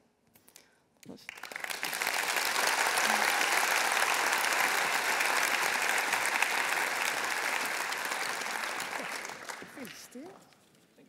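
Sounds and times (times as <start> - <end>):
audience applauding: 1.3 - 10.6.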